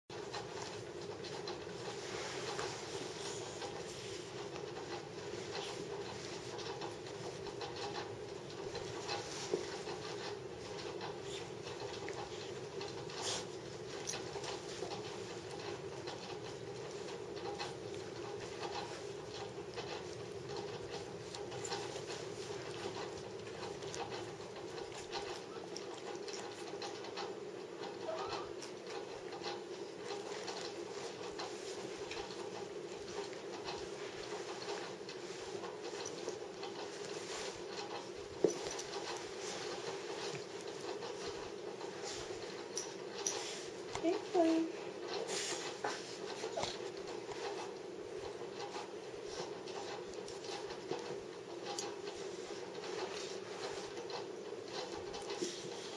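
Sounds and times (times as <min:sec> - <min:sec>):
animals scuffling on carpet: 0:00.1 - 0:55.9
small ticks: 0:00.1 - 0:55.9.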